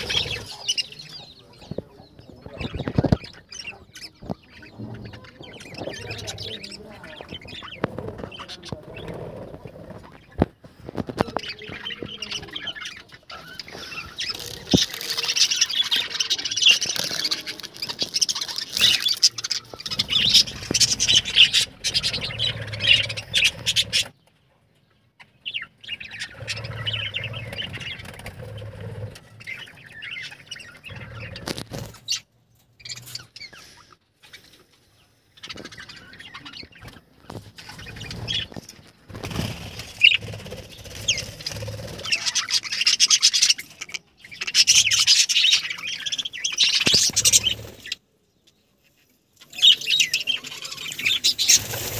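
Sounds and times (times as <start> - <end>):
budgerigars chirping and chattering: 0.0 - 51.9.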